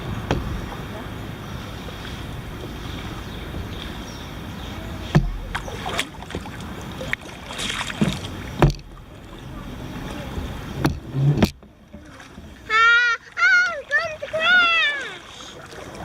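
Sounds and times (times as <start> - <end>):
paddle knocking on hull: 0.0 - 1.4, 2.0 - 16.0
water splashing: 0.0 - 16.0.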